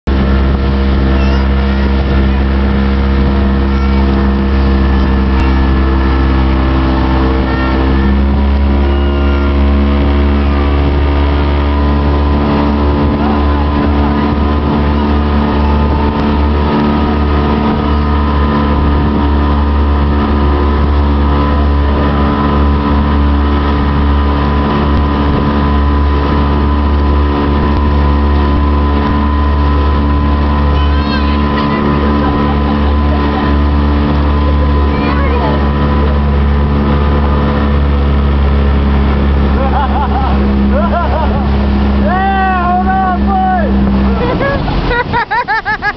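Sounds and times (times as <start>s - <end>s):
motorboat engine running: 0.0s - 45.9s
rushing boat wake: 0.0s - 45.9s.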